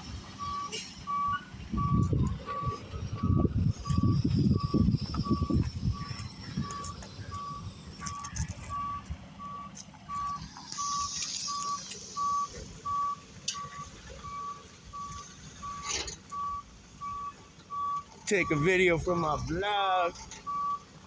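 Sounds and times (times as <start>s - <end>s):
truck engine rumble: 0.0s - 21.0s
truck reverse alarm beeping: 0.0s - 21.0s.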